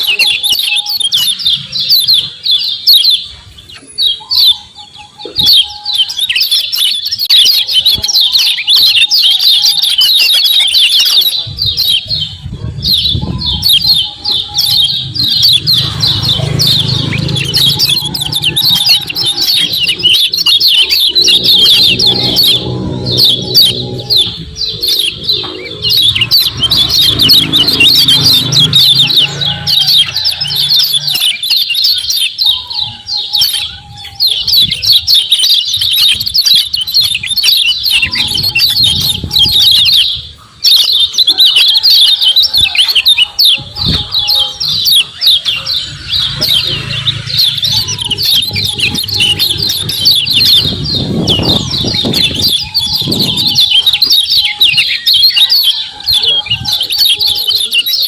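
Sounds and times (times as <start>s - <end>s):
rapid high bird chirps: 0.0s - 58.0s.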